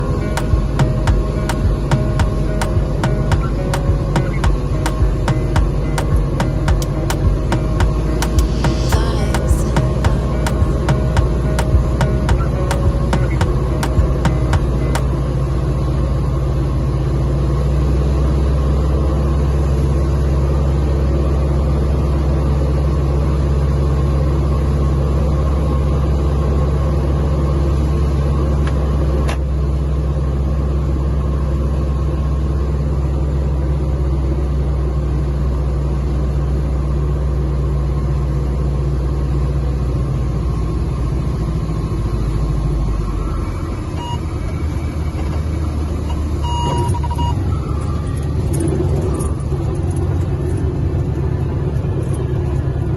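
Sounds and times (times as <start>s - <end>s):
propeller plane engine droning: 0.0s - 52.9s.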